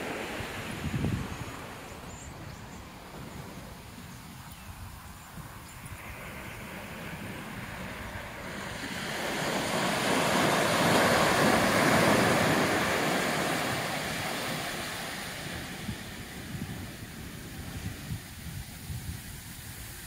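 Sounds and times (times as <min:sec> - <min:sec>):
small waves breaking on sand: 0:00.0 - 0:20.0
wind rumble on microphone: 0:00.0 - 0:20.0.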